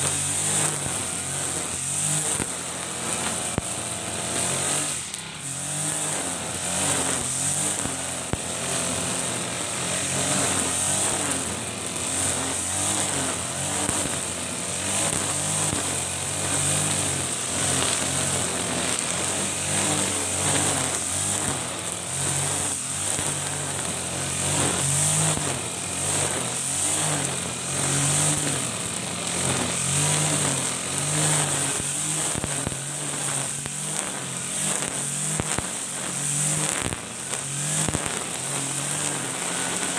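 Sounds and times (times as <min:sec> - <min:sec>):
brush cutter engine: 0:00.0 - 0:39.9
trimmer line hissing: 0:00.0 - 0:39.9.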